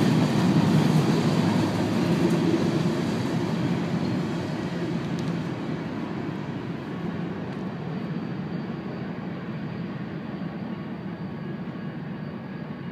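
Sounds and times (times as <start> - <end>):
freight train rolling on rails: 0.0 - 12.9.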